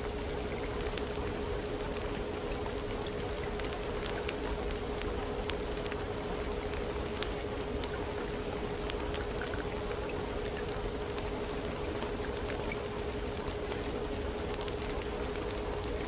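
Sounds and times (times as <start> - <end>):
rain hiss with drop ticks: 0.0 - 16.0.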